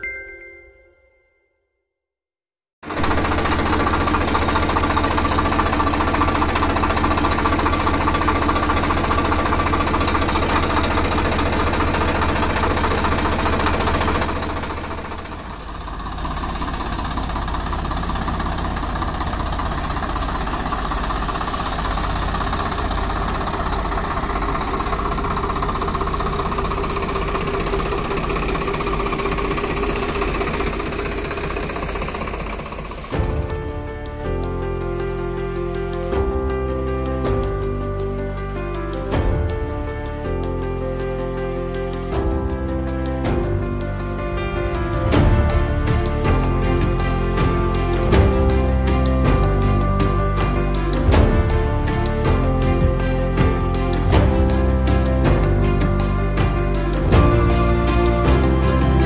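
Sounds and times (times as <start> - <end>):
tractor diesel engine running: 2.8 - 59.0.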